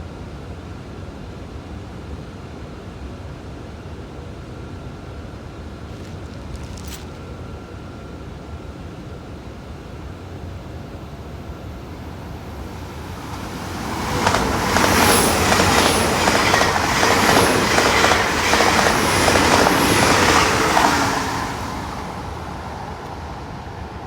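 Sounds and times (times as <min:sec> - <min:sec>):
passenger train passing: 0:03.3 - 0:24.0.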